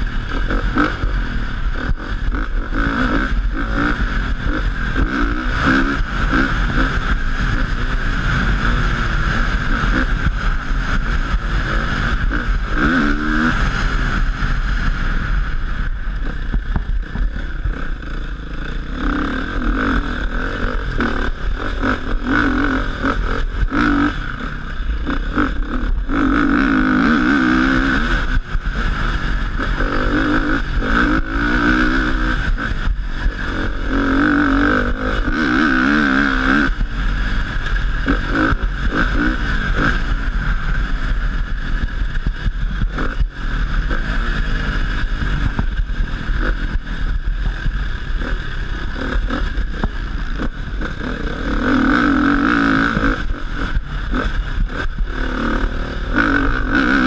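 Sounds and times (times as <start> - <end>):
dirt bike engine revving: 0.0 - 57.0
wind on microphone: 0.0 - 57.0.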